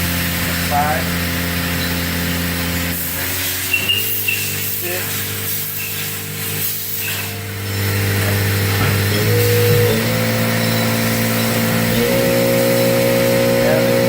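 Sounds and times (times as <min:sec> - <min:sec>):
mill spindle whine: 0:00.0 - 0:14.0.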